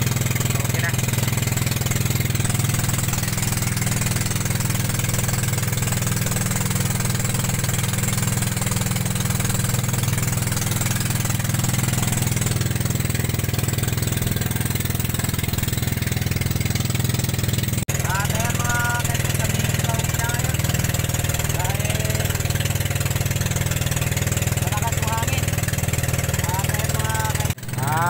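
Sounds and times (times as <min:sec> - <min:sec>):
boat engine chugging: 0:00.0 - 0:28.0.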